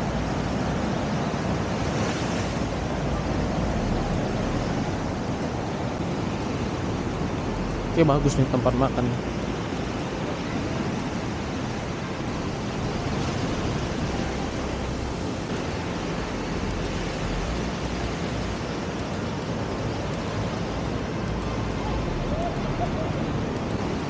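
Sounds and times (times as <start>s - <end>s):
ocean surf breaking: 0.0s - 24.0s.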